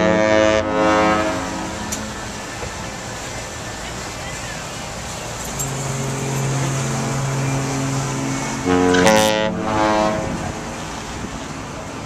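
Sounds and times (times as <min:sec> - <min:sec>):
ship horn: 0:00.0 - 0:04.0, 0:05.4 - 0:11.4.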